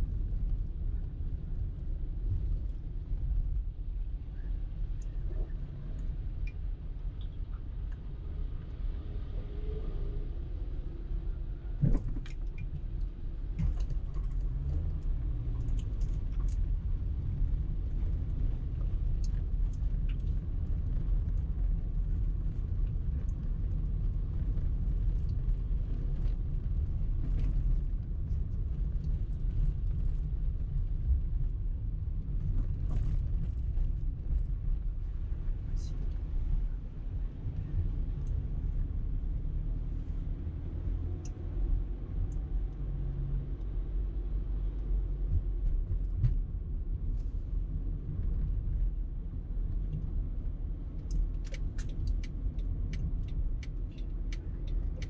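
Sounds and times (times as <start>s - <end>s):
engine and tyre rumble: 0.0s - 55.0s.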